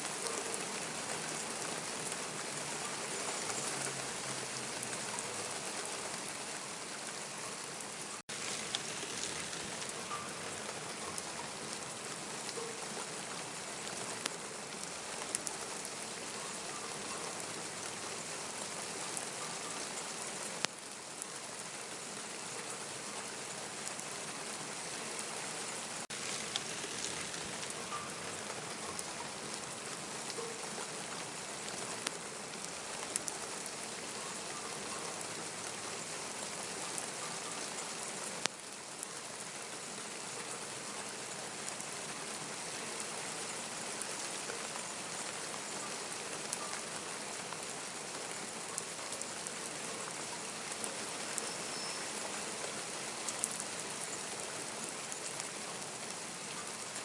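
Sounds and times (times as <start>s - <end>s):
raindrops ticking close by: 0.0s - 57.0s
steady rain hiss: 0.0s - 57.0s.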